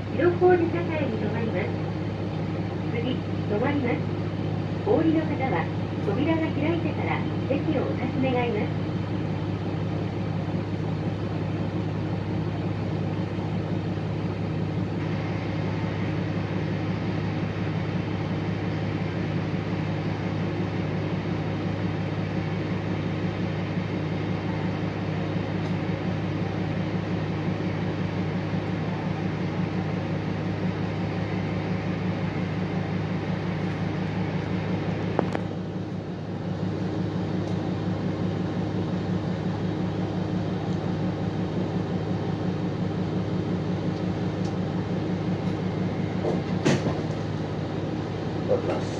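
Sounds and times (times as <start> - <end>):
bus engine idling: 0.0 - 48.9.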